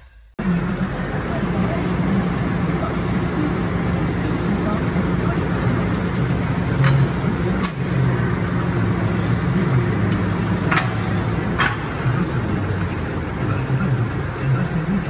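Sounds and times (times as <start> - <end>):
tractor diesel engine idling: 0.4 - 15.0.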